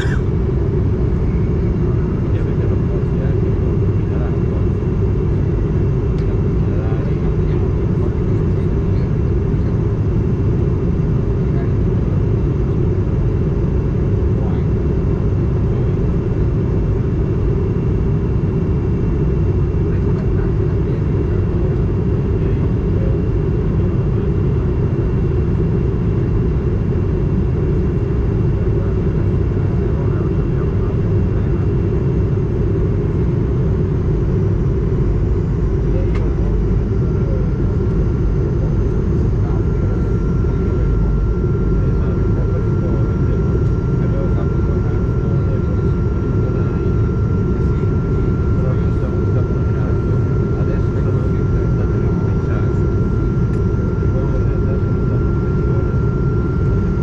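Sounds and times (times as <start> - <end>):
aircraft cabin low rumble: 0.0 - 57.0.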